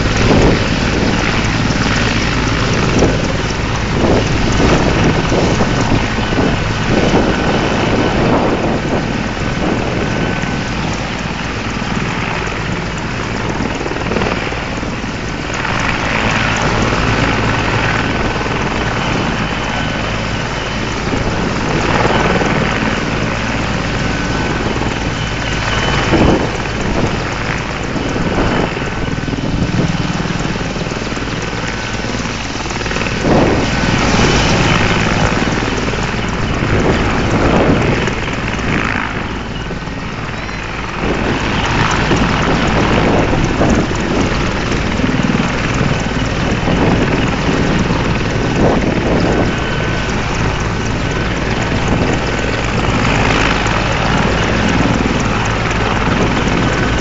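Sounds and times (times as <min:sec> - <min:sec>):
helicopter engines and rotor running: 0:00.0 - 0:57.0
rotor wash buffeting microphone: 0:00.0 - 0:57.0.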